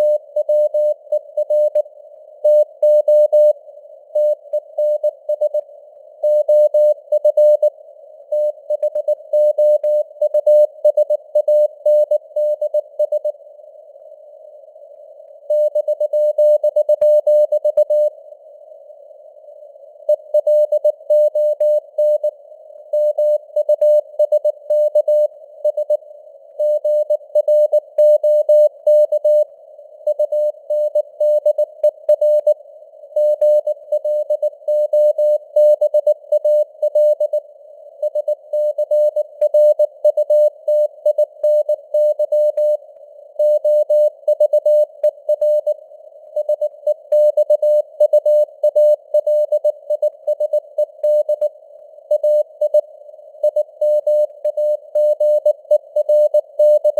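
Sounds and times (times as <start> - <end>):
faint radio noise hiss: 0.0 - 56.9.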